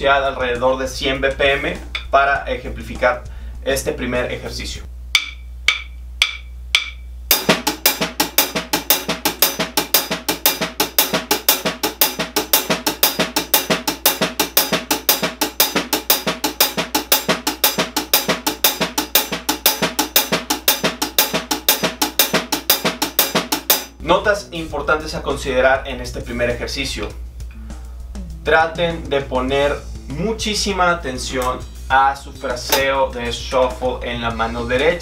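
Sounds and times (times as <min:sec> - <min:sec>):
drum kit shuffle: 0:00.0 - 0:35.0.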